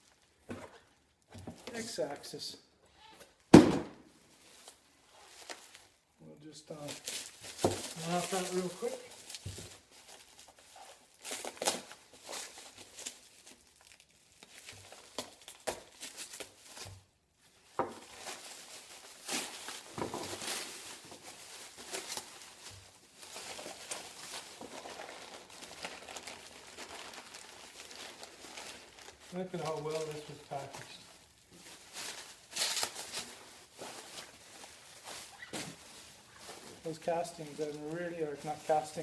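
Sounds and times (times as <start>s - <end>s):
packaging rustling and crinkling: 4.2s - 6.1s, 6.7s - 39.0s.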